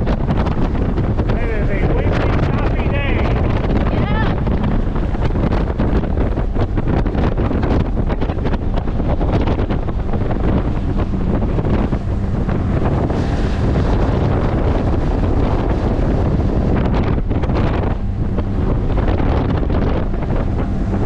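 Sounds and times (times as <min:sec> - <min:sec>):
outboard motor droning: 0:00.0 - 0:21.0
water rushing past hull: 0:00.0 - 0:21.0
wind buffeting microphone: 0:00.0 - 0:21.0.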